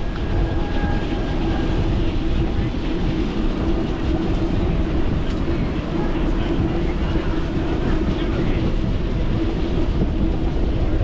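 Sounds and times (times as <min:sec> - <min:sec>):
bicycle rolling on pavement: 0:00.0 - 0:11.0
low hum: 0:00.0 - 0:11.0.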